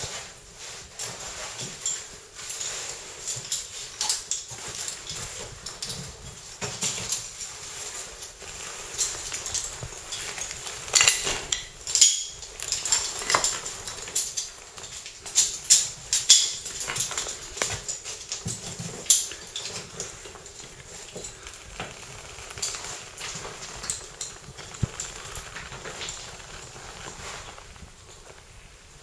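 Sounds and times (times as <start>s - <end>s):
scuffing and rustling: 0.0s - 29.0s.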